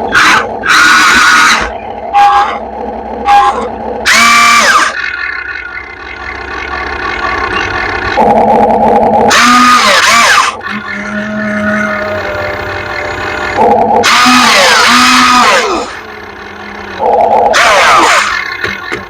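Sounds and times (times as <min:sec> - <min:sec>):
steady motor hum: 0:00.0 - 0:19.0
toy excavator motors whining: 0:00.0 - 0:19.0.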